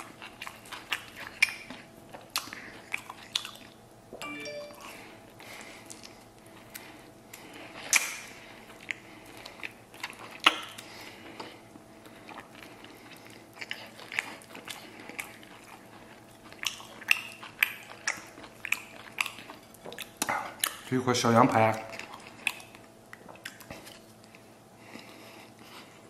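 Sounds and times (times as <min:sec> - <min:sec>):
chewing and lip smacking: 0:00.0 - 0:03.8, 0:05.3 - 0:21.0, 0:21.7 - 0:26.0.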